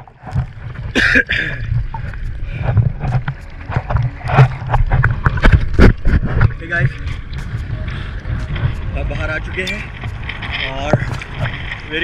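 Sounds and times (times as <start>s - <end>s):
low uneven rumble: 0.0s - 12.0s
sea water sloshing and splashing: 0.0s - 12.0s.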